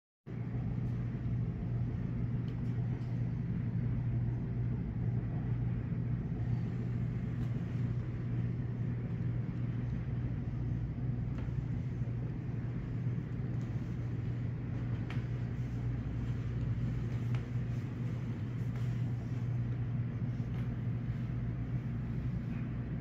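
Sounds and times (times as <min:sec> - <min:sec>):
low rumbling hum: 0:00.3 - 0:23.0.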